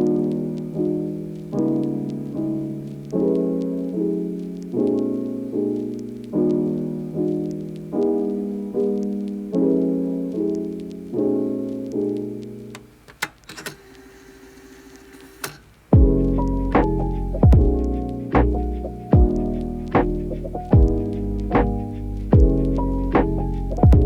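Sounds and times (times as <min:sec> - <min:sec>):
piano music with repeating chords: 0:00.0 - 0:13.5, 0:14.1 - 0:24.0.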